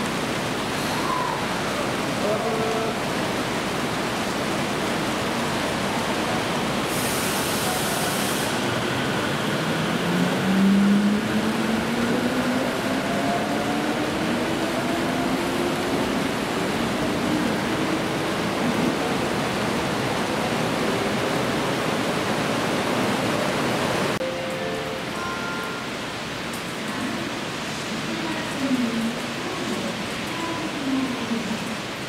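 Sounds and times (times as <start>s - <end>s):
wheels rushing on rail: 0.0s - 32.0s.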